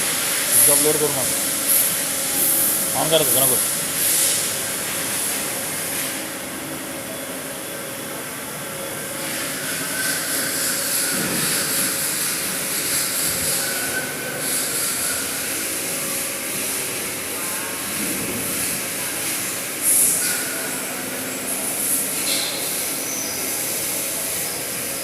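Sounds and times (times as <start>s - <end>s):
parts washing machine drone: 0.0s - 25.0s.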